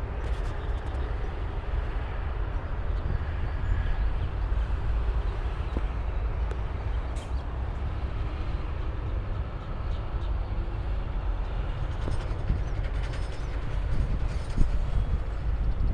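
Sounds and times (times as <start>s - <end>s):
highway traffic rumble: 0.0s - 15.9s.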